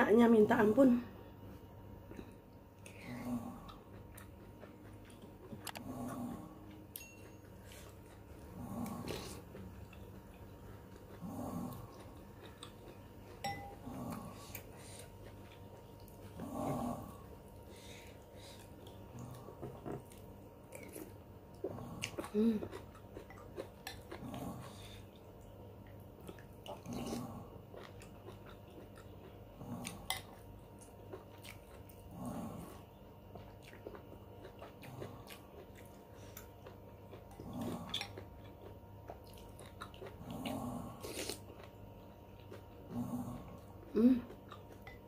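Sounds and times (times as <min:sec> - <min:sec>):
chewing and mouth noises: 0:02.1 - 0:45.0.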